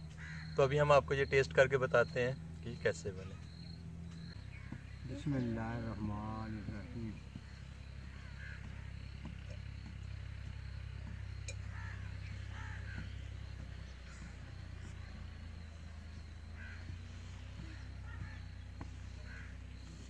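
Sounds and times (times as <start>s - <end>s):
short bird calls: 2.8s - 20.0s
steady low rumble: 3.4s - 20.0s.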